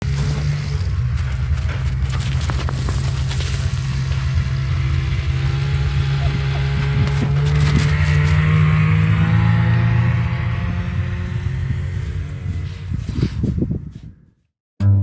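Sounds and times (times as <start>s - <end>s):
engine humming steadily: 0.0s - 12.9s.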